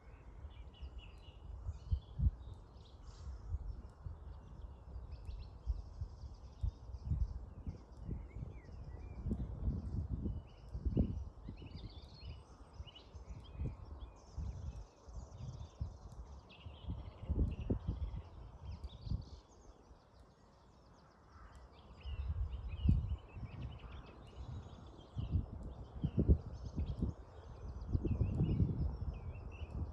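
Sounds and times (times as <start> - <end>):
songbirds chirping and singing: 0.0 - 29.9
wind rumbling on microphone: 0.0 - 29.9.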